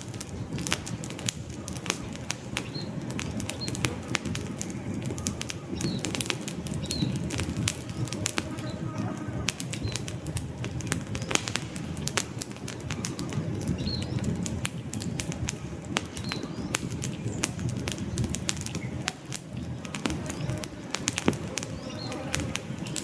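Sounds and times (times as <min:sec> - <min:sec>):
high chirps from burning wood: 0:00.0 - 0:23.0
rush of burning flames: 0:00.0 - 0:23.0
wood fire crackling and popping: 0:00.0 - 0:23.0.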